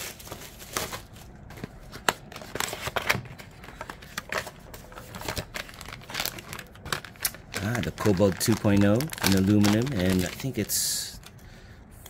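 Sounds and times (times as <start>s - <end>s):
packaging rustling and clicking: 0.0s - 11.3s.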